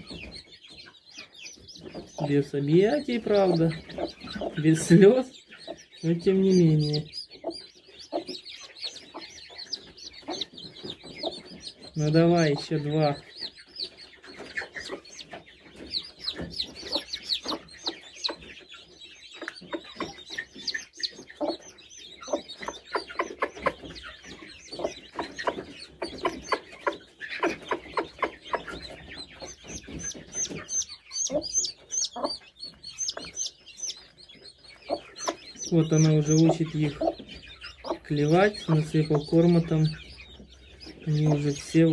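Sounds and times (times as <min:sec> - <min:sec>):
chicks peeping: 0:00.0 - 0:41.9
hen clucking: 0:00.0 - 0:41.9.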